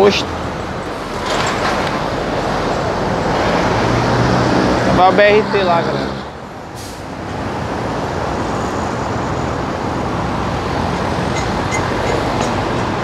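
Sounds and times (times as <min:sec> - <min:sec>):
city traffic: 0:00.0 - 0:13.0.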